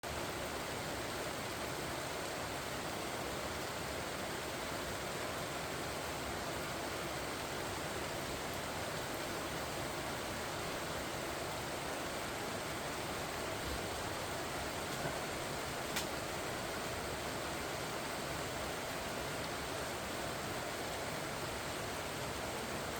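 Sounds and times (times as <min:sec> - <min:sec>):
rain on leaves: 0:00.0 - 0:22.9.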